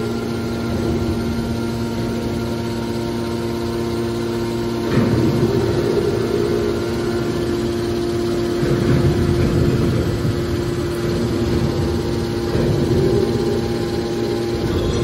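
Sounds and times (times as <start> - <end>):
hydraulic pump motors humming and whining: 0.0 - 15.0.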